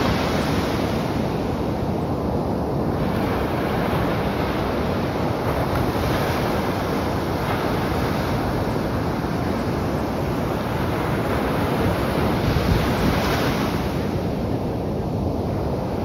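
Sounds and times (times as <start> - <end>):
surf breaking on a beach: 0.0 - 16.0
wind buffeting microphone: 0.0 - 16.0.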